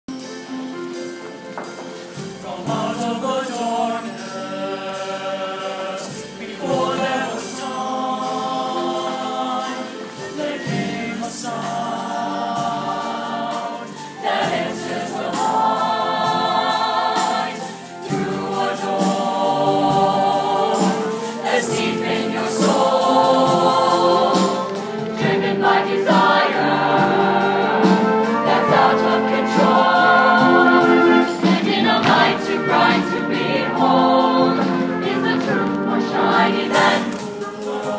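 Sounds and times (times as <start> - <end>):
mixed choir singing: 2.1 - 37.9.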